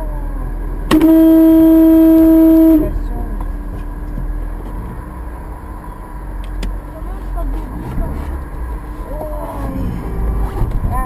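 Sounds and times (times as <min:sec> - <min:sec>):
car interior road drone: 0:00.0 - 0:11.0
car horn blast: 0:00.9 - 0:10.9.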